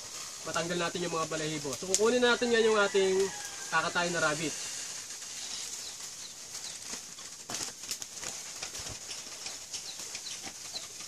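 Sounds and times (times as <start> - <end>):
small birds chirping: 0.0 - 11.0
steady high hiss: 0.0 - 11.0
wood fire crackling: 0.0 - 11.0.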